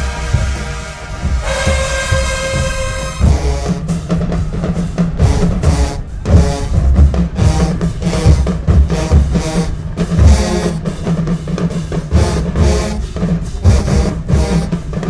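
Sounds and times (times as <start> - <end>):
cymbal crashes: 0.0 - 14.7
bass drum and snare pulse: 0.0 - 15.0
brass chords: 0.0 - 15.0
marching band playing: 0.0 - 15.0.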